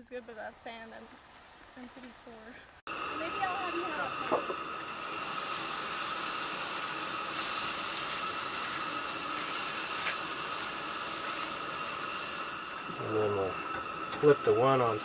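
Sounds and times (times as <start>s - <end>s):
batter sizzling on hot plates: 0.0s - 15.0s.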